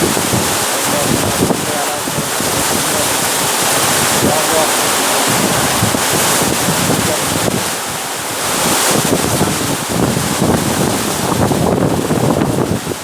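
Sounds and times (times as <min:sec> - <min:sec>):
heavy rain: 0:00.0 - 0:13.0
wind rumbling on microphone: 0:00.0 - 0:13.0.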